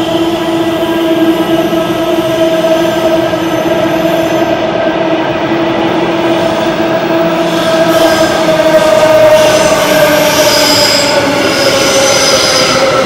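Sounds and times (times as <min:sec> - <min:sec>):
train cars rumbling: 0:00.0 - 0:13.0
train two-tone whine: 0:00.0 - 0:13.0.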